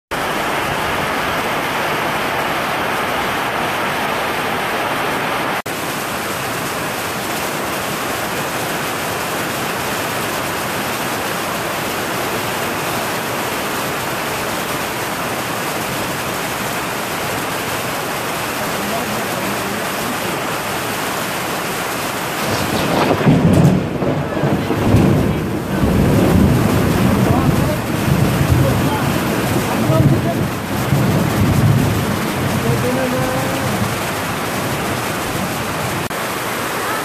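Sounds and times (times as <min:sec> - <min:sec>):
heavy rain pouring: 0:00.1 - 0:37.0.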